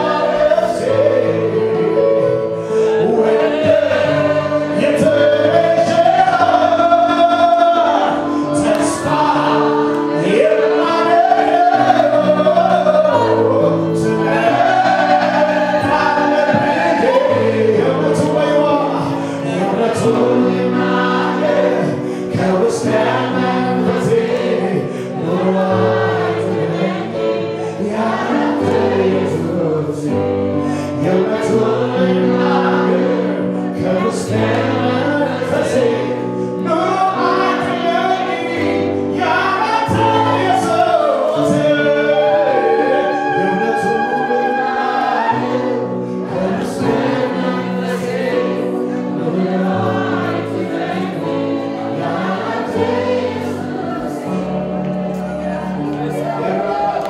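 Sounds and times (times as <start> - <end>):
congregation singing: 0.0 - 57.0
electronic keyboard chords: 0.0 - 57.0
man singing lead: 0.0 - 57.0.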